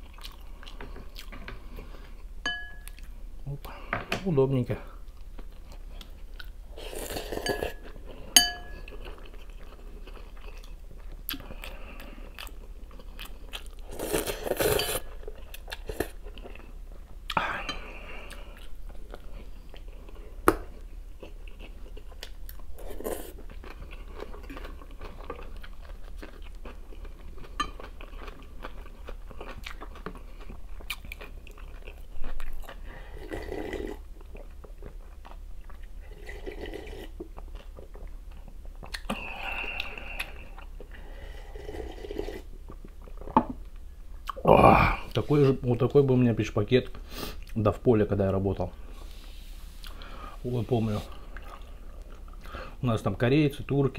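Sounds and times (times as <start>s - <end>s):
person chewing and crunching food: 0.0s - 3.8s, 5.0s - 45.6s, 49.7s - 52.8s.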